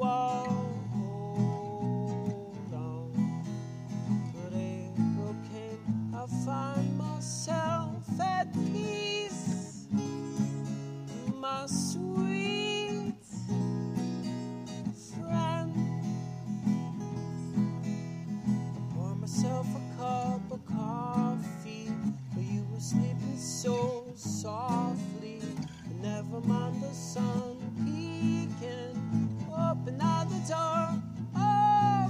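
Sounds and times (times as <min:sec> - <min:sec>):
strummed acoustic guitar: 0:00.0 - 0:32.0.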